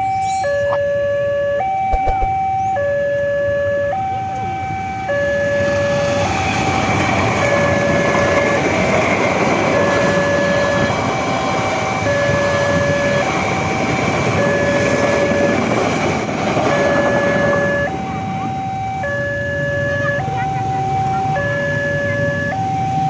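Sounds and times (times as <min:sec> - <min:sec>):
two-tone crossing alarm: 0:00.0 - 0:23.0.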